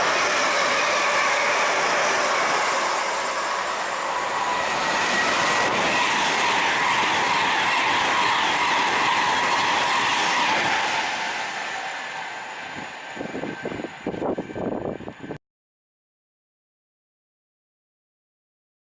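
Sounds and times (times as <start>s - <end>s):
train wheels running on rails: 0.0s - 15.4s.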